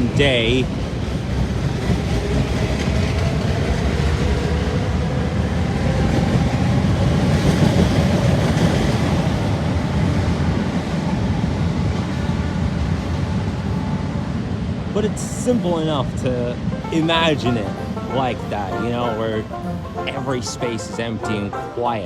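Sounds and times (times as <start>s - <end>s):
electric train rumbling on tracks: 0.0s - 22.0s.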